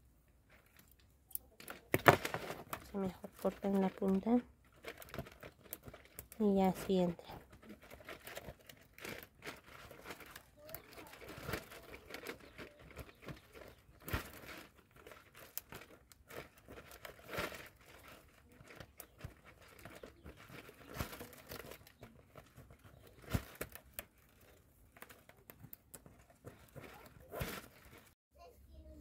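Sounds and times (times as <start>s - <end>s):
dry palm leaves rustling and crackling: 1.5s - 28.2s.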